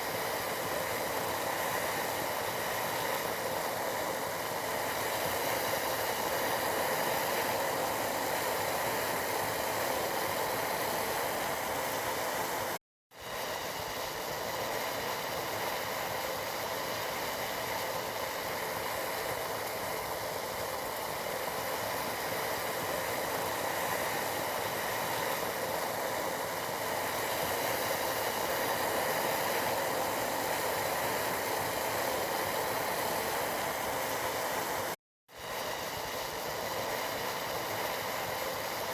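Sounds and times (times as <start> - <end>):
tea boiling in a pot: 0.0 - 38.9.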